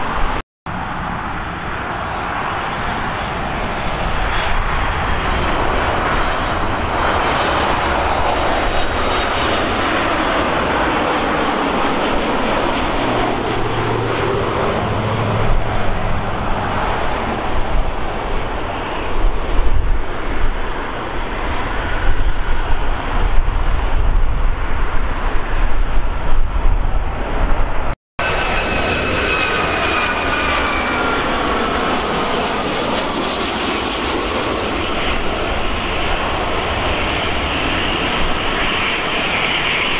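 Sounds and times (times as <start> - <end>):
falling jet engine whine: 0.0 - 39.9
jet engine roar: 0.0 - 39.9.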